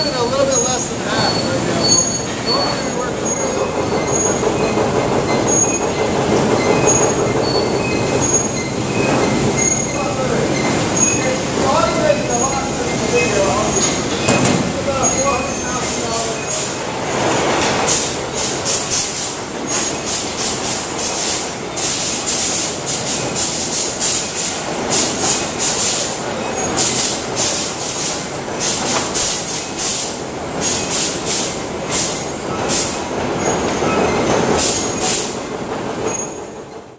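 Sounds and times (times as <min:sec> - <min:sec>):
conveyor machinery din: 0:00.0 - 0:36.9.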